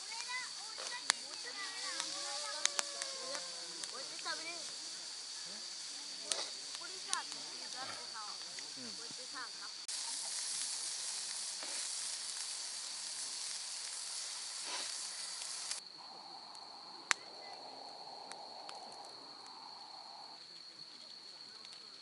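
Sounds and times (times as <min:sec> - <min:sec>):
fat dripping into fire: 0:00.0 - 0:22.0
fire crackling: 0:00.0 - 0:22.0
food sizzling over campfire: 0:00.0 - 0:22.0.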